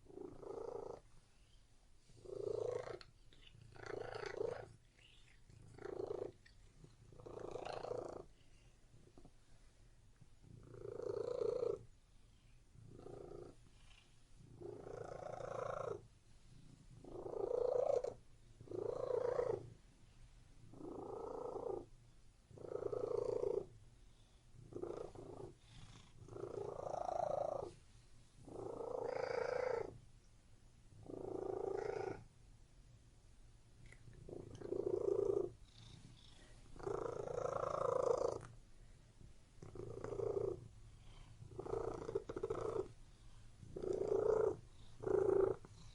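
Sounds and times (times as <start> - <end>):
cat purring: 0.0 - 30.0, 30.9 - 32.3, 33.8 - 45.9.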